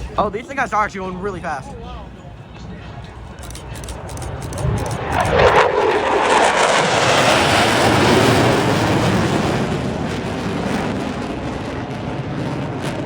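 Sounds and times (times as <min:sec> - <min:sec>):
jet aircraft roaring past: 0:02.4 - 0:13.0.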